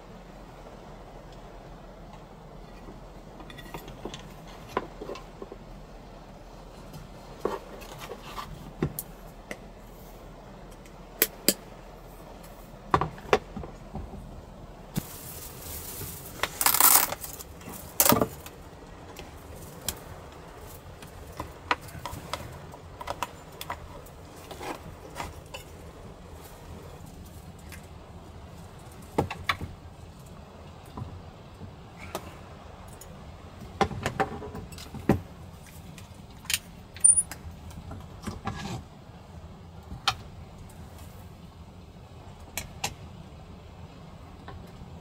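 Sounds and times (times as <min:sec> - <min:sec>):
faint low background hum: 0:00.0 - 0:45.0
rustle: 0:00.0 - 0:45.0.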